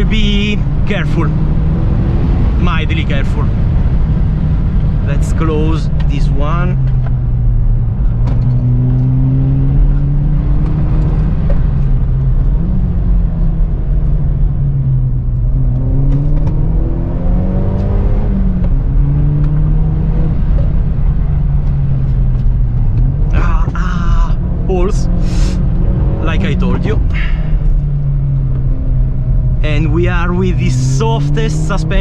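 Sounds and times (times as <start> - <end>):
car engine revving while driving: 0.0 - 32.0
low road rumble: 0.0 - 32.0.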